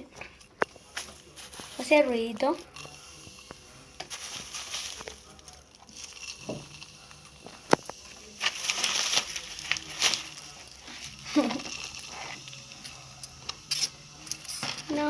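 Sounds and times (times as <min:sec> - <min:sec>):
slime crackling: 0:01.0 - 0:15.0.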